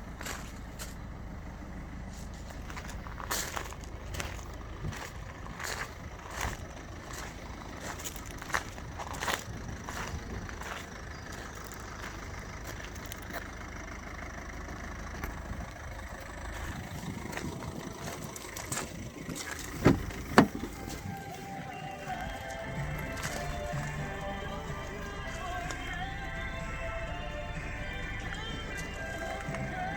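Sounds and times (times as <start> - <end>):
van engine idling: 0.0 - 29.9.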